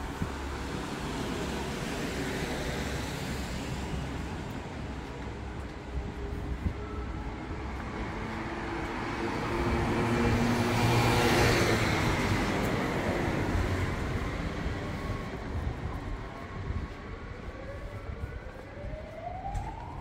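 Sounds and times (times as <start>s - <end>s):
traffic background: 0.0s - 20.0s.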